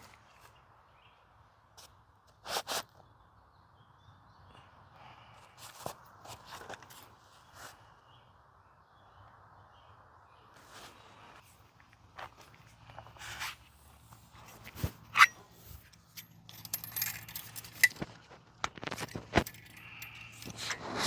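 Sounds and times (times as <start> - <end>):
faint birds chirping: 0.0 - 2.2, 2.9 - 18.0.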